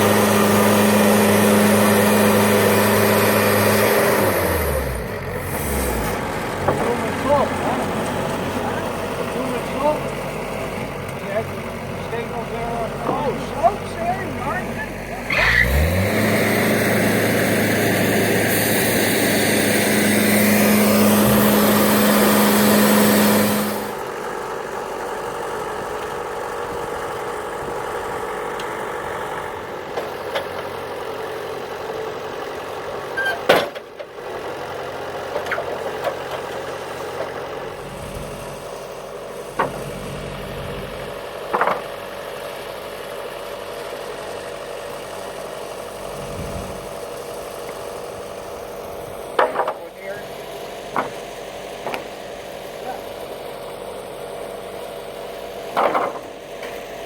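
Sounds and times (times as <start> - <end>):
bandsaw mill running: 0.0 - 33.1, 34.1 - 57.0.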